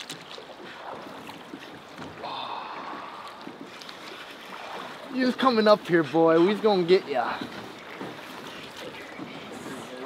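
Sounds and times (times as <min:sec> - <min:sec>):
river water moving: 0:00.0 - 0:10.0.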